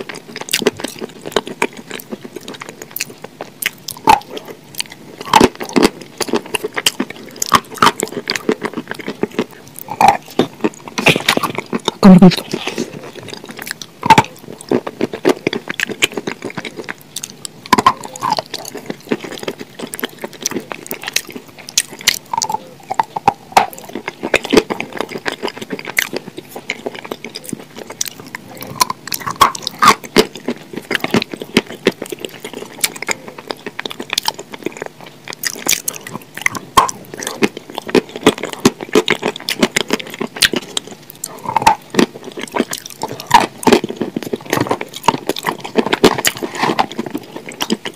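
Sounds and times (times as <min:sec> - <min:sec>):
sticky mouth clicks: 0:00.0 - 0:47.9
wet chewing and lip-smacking: 0:00.0 - 0:47.9.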